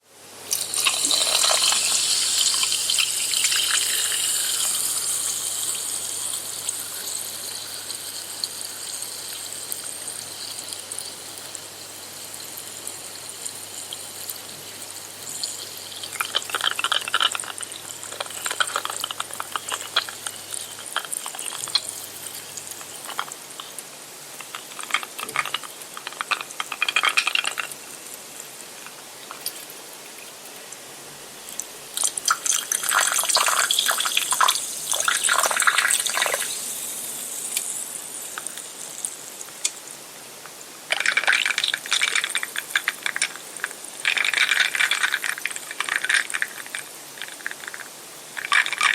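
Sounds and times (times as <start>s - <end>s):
soda fizzing: 0.3s - 48.9s.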